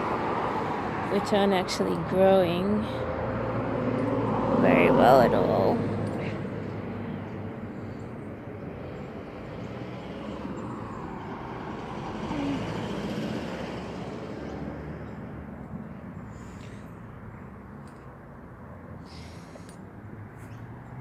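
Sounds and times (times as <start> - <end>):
passing vehicle rumble: 0.0 - 21.0.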